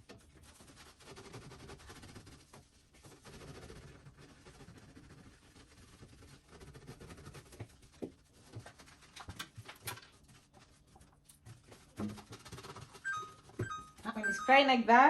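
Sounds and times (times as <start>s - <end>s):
wet cloth cleaning fridge: 0.0s - 14.5s.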